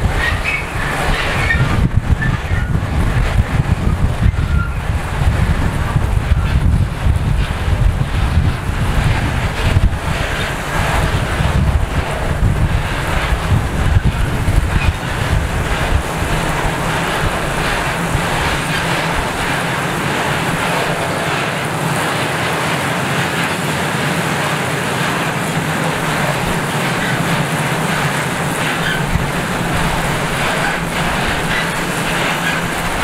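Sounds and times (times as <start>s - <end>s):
freight train wheels rumbling: 0.0s - 33.0s
wind buffeting microphone: 0.0s - 33.0s.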